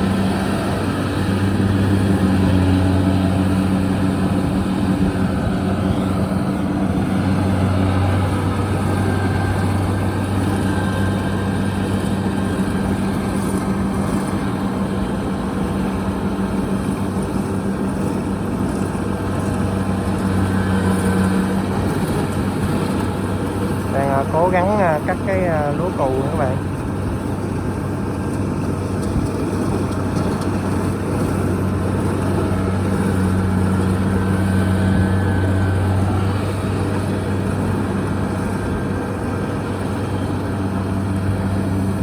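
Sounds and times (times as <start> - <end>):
combine harvester engine hum: 0.0 - 42.0
threshing machinery noise: 0.0 - 42.0.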